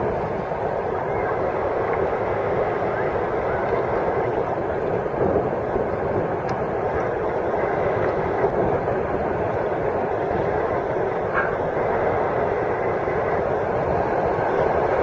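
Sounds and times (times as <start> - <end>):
water rushing around kayak: 0.0 - 15.0.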